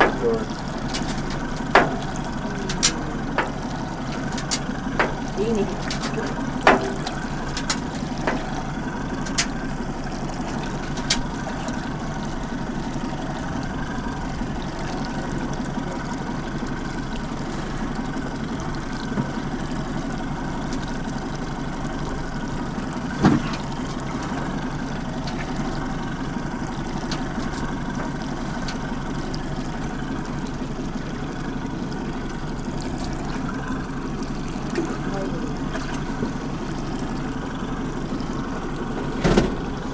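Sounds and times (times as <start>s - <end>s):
boat motor running: 0.0s - 39.9s
water washing against hull: 0.0s - 39.9s.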